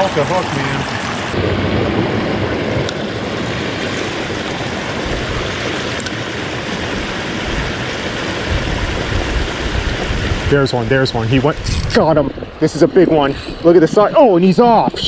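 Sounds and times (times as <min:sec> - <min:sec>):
water gushing over a dam: 0:00.0 - 0:01.4, 0:02.3 - 0:15.0.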